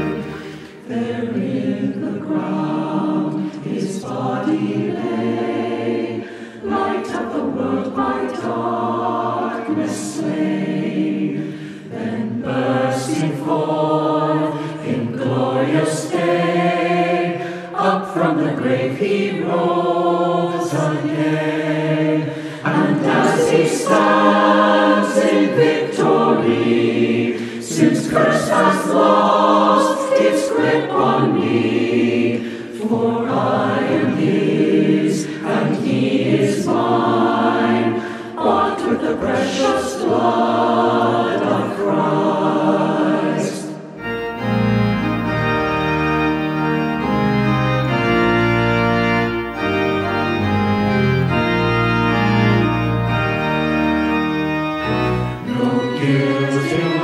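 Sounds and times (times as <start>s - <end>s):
mixed choir singing: 0.0s - 45.4s, 49.6s - 57.0s.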